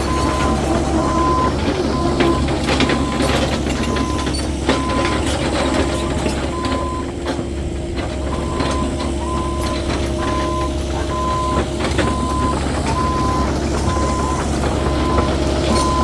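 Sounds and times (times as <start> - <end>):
travel alarm beeping: 0.0 - 7.2, 8.1 - 16.0
diesel engine humming: 0.0 - 16.0.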